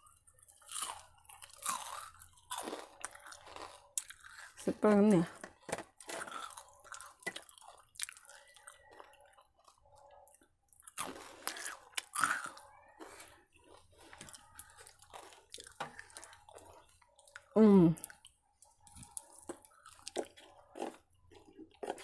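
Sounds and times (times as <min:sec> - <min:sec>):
person chewing and crunching food: 0:00.0 - 0:22.0.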